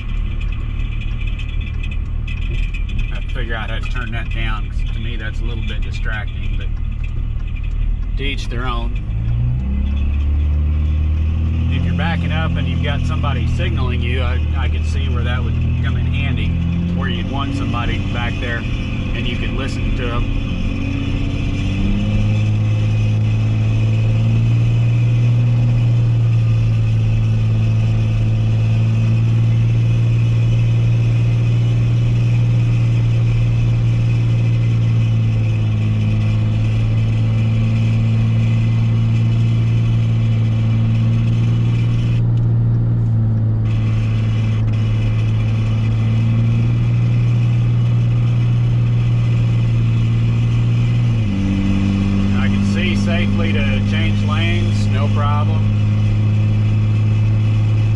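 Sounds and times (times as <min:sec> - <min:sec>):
engine and road hum in cab: 0:00.0 - 0:57.9.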